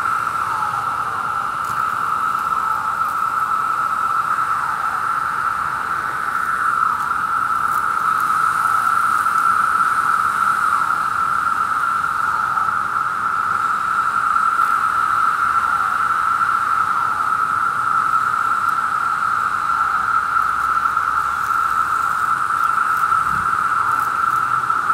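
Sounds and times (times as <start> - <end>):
cicada calls sliding down: 0.0 - 24.9
cicadas droning buzz: 0.0 - 24.9.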